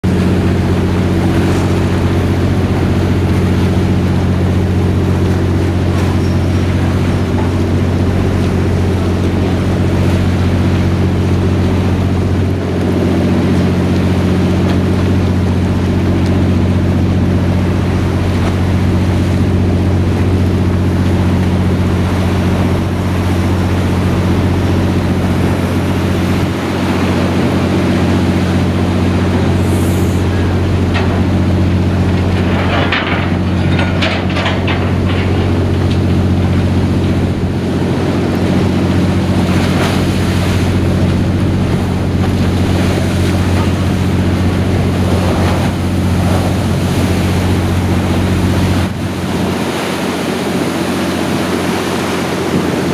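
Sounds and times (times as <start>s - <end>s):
boat engine humming: 0.0s - 52.9s
loud splashes: 0.0s - 52.9s
water rushing over hull: 0.0s - 52.9s.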